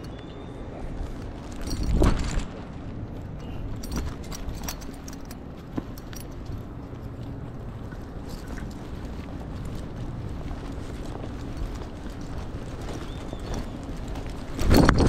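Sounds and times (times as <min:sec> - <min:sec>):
metallic jingling and clicking: 0:00.0 - 0:00.5, 0:01.2 - 0:02.4, 0:03.2 - 0:15.0
outdoor background noise: 0:00.0 - 0:15.0.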